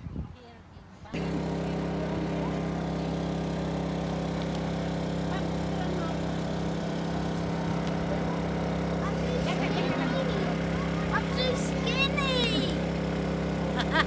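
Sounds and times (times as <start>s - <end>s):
inverter generator running: 1.1s - 14.0s.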